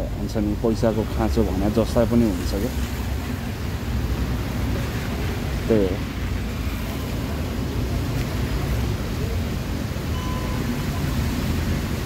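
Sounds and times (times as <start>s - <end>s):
light rain: 0.0s - 12.0s
traffic rumble and hiss: 0.0s - 12.0s.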